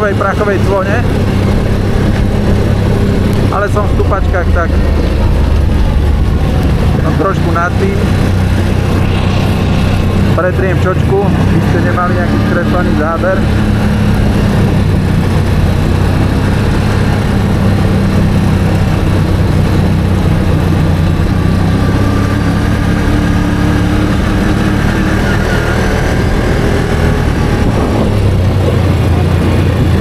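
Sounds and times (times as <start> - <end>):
atv engine droning: 0.0 - 30.0.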